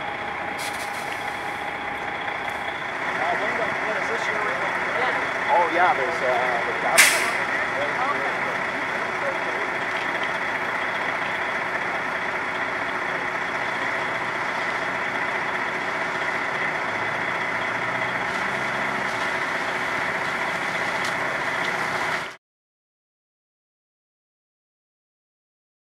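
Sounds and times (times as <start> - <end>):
truck engine idling: 0.0 - 22.4.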